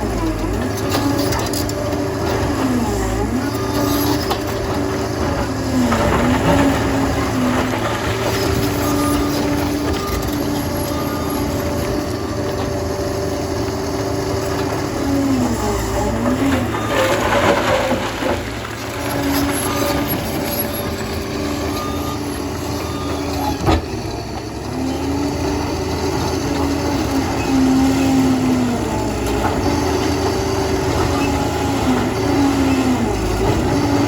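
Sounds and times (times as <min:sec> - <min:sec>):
bulldozer diesel engine: 0:00.0 - 0:34.0.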